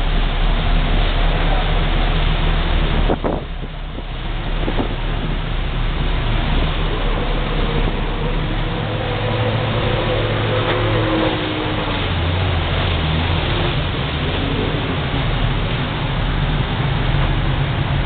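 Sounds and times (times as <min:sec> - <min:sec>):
motorboat engine drone: 0:00.0 - 0:18.0
rush of wake: 0:00.0 - 0:18.0
wind buffeting microphone: 0:00.0 - 0:18.0.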